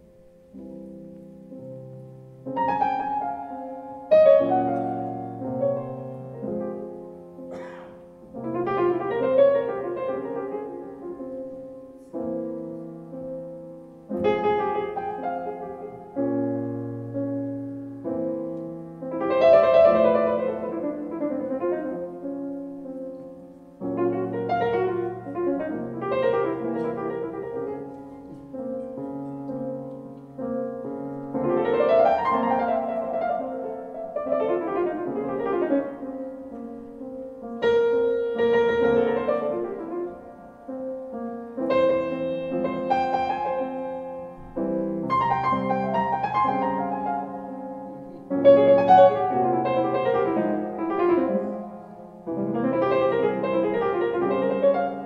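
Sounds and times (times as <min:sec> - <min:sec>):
solo jazz piano: 0:00.0 - 0:55.0.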